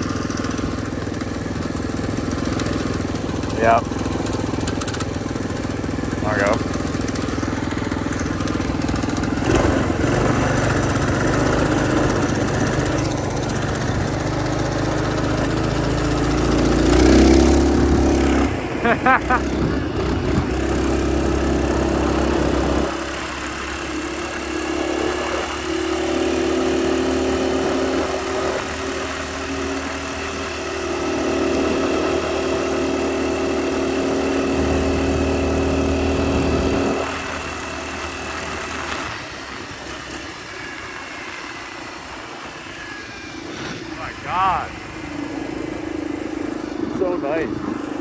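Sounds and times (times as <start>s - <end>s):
mini bike engine running: 0.0s - 48.0s.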